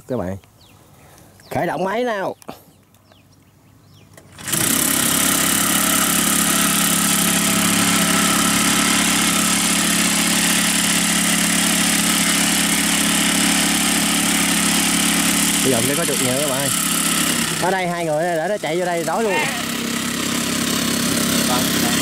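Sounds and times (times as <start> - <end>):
water pump engine running: 4.3 - 22.0.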